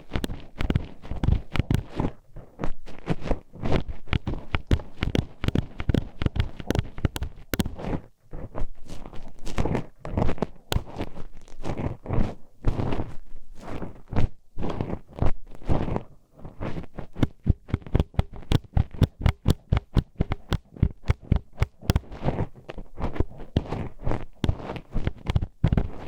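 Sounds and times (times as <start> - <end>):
metal hairpins scraping microphone: 0.0 - 26.0.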